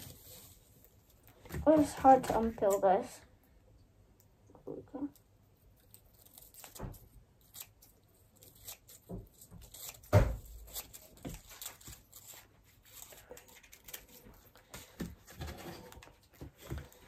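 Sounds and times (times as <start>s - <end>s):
paper rustling: 0.0s - 3.0s, 5.8s - 17.0s.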